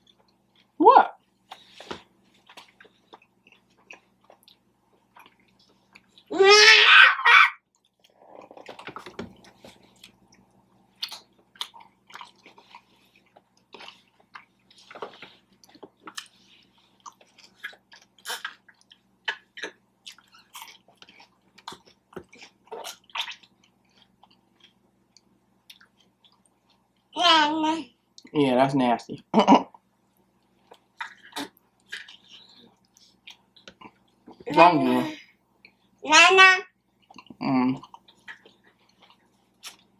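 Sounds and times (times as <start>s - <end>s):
person chewing food: 0.0s - 6.3s, 7.6s - 27.1s, 29.7s - 34.6s, 36.8s - 39.9s.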